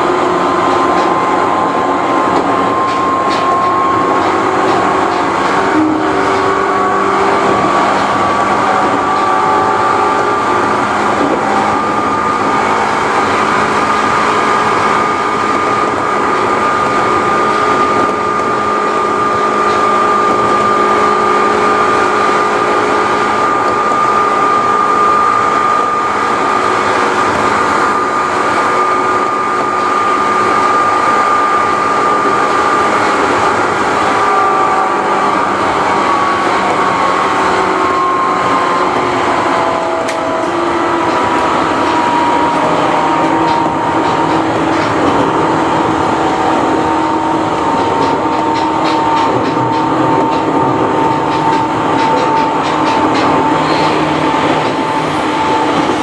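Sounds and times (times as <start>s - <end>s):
electric train motor whine: 0.0s - 56.0s
wheel and track noise: 0.0s - 56.0s.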